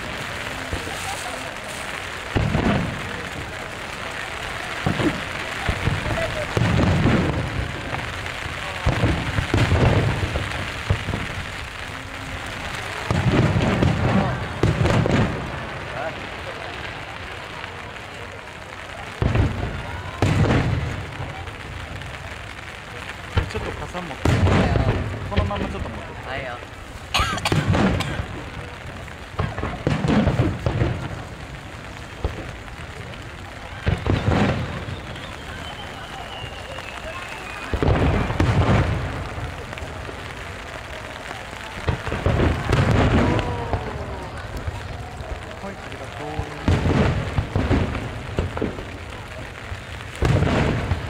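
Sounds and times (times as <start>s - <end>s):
fireworks bursting: 0.0s - 51.0s
heavy rain hissing: 0.0s - 51.0s.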